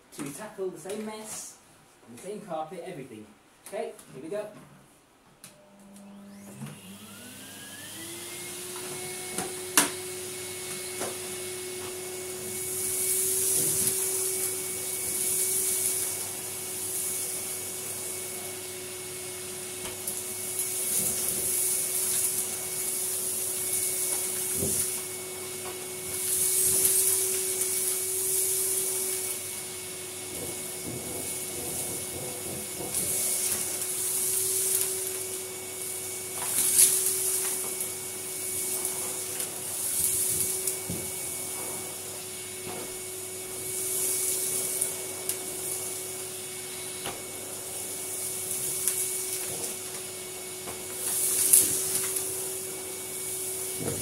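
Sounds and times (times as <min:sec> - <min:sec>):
vacuum cleaner running: 0:05.4 - 0:54.0
vacuum sucking up dirt hissing: 0:06.2 - 0:54.0.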